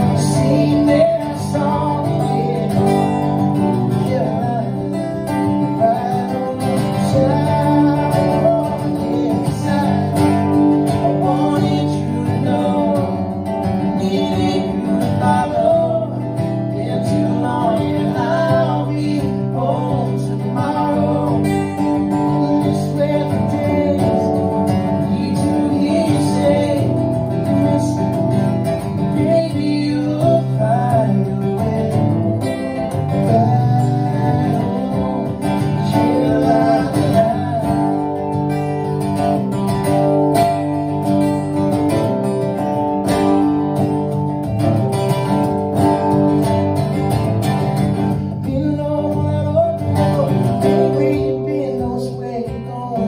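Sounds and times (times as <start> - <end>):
person singing: 0.0 - 28.4, 29.0 - 39.1, 48.3 - 53.0
strummed acoustic guitars: 0.0 - 53.0.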